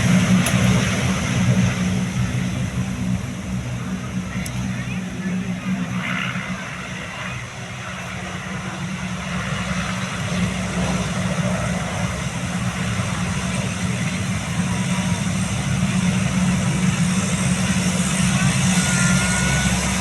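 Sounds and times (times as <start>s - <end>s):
turboprop propeller drone: 0.0s - 20.0s.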